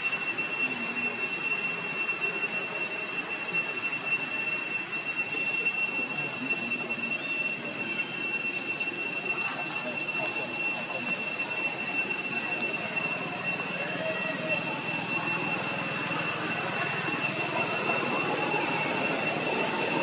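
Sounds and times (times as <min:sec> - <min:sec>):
insect chorus whining: 0:00.0 - 0:20.0.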